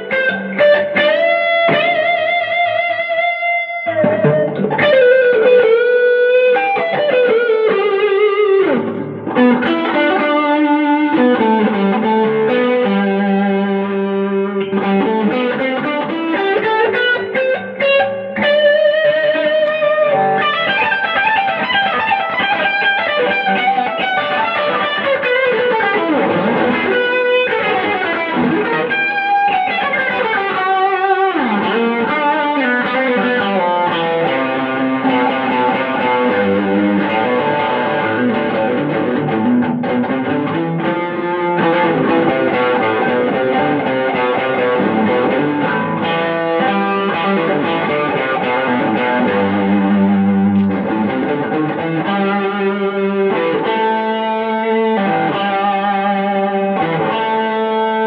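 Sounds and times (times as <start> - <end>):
electric guitar lead melody: 0.0 - 58.0.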